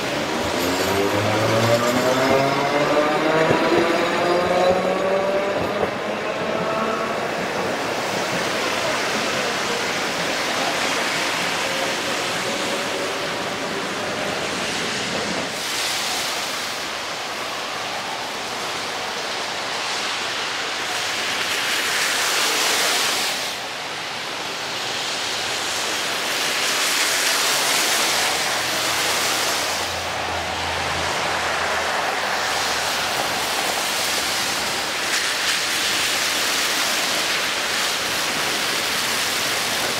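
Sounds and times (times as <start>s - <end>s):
tyres hissing on wet road: 0.0s - 39.9s.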